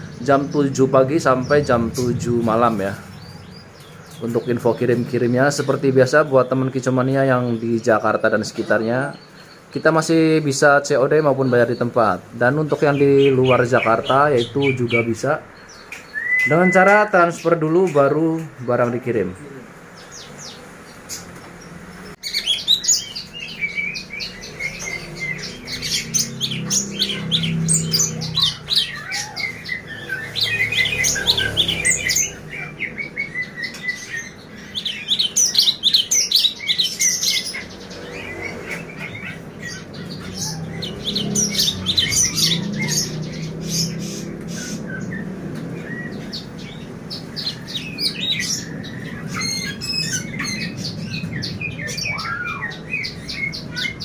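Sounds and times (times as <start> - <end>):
caged songbirds chirping: 0.0 - 54.0.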